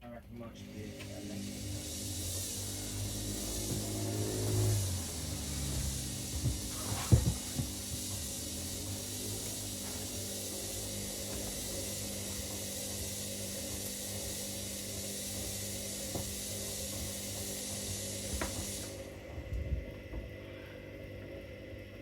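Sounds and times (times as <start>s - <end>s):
washing machines humming: 0.0s - 22.0s
high hiss: 0.6s - 19.2s.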